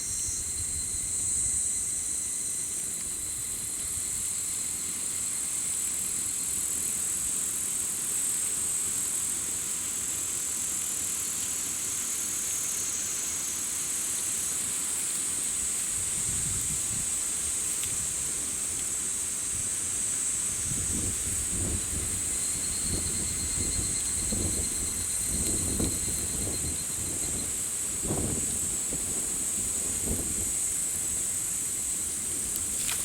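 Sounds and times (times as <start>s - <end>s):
shrill insect chorus: 0.0s - 33.0s
thin insect tone: 0.0s - 33.0s.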